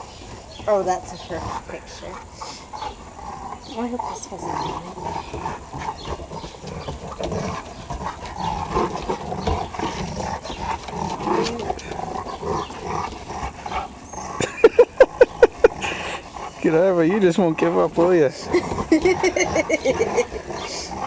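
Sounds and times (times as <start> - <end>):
dogs play-growling: 0.0 - 21.0.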